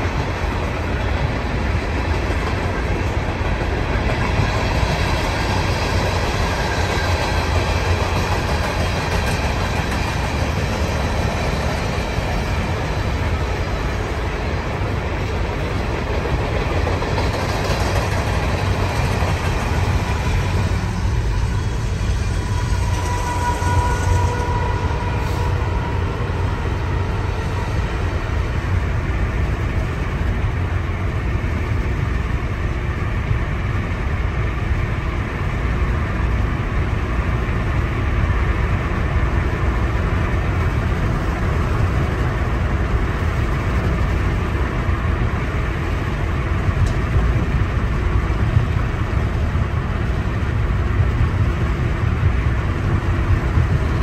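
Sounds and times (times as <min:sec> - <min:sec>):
train running: 0:00.0 - 0:54.0.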